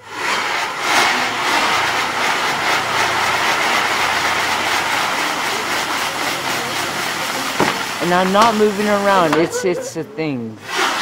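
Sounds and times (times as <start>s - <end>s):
fireworks rushing hiss: 0.0s - 10.0s, 10.6s - 11.0s.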